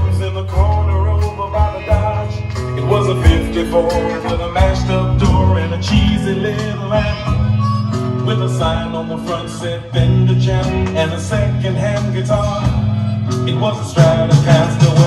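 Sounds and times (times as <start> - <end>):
music with steady beat and bass: 0.0 - 15.0.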